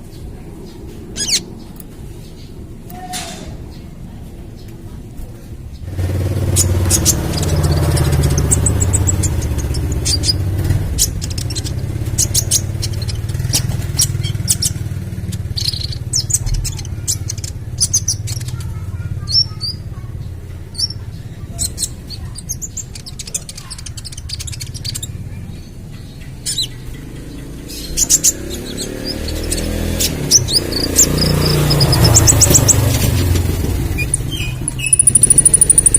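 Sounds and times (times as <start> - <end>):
bird high chirps and calls: 0.0 - 4.8, 5.7 - 35.9
low engine-like rumble: 0.0 - 35.9.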